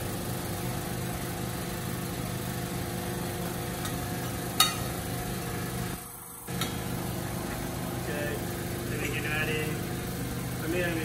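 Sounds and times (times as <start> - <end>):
kitchen equipment hum: 0.0 - 11.0
food cooking in frying pan: 0.1 - 10.7.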